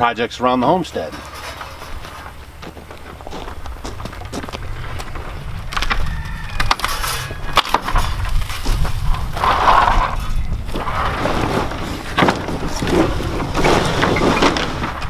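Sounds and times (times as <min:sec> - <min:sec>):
wooden crate creaking and cracking: 0:00.6 - 0:15.0.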